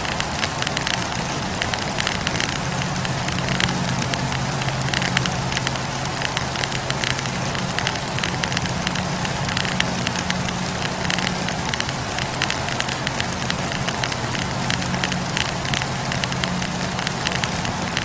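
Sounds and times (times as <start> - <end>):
firewood crackling and popping: 0.0 - 18.0
low hum: 0.0 - 18.0
steady hiss: 0.0 - 18.0.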